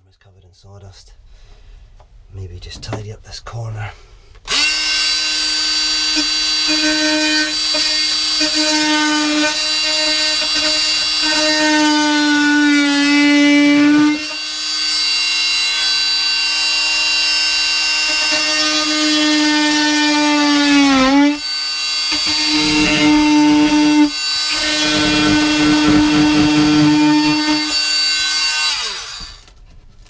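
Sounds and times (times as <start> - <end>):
power tool cutting wood: 4.5 - 29.6.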